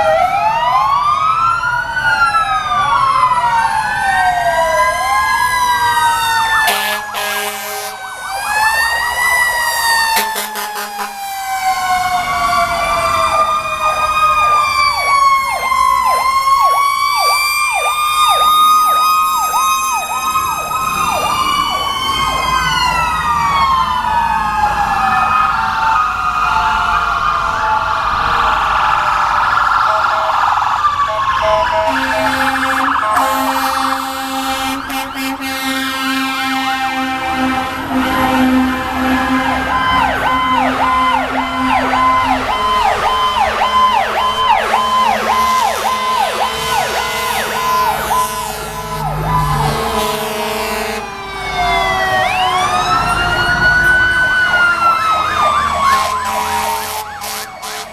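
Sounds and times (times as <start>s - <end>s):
fire truck sirens wailing: 0.0s - 57.9s
siren fast yelp: 0.0s - 57.9s.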